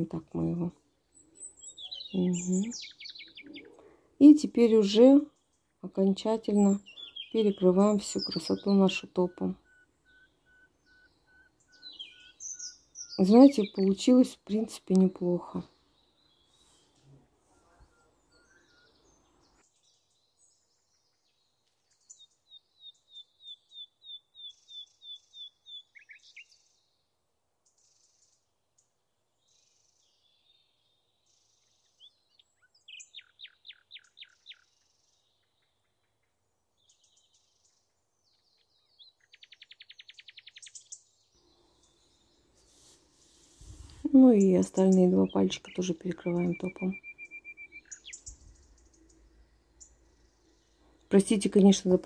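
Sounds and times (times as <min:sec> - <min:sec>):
faint songbird song: 0:00.0 - 0:52.0.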